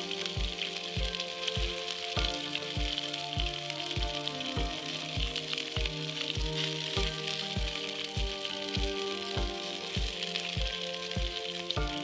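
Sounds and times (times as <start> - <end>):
background music with beat: 0.0 - 12.0
steady hiss: 0.0 - 12.0
kick drum: 0.4 - 12.0.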